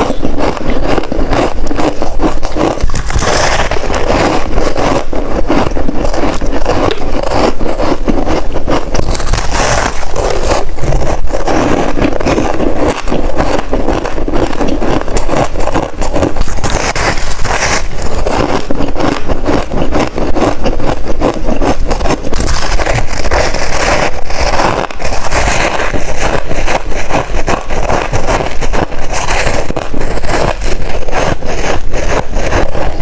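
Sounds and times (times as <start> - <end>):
crunchy chewing of frost: 0.0 - 33.0.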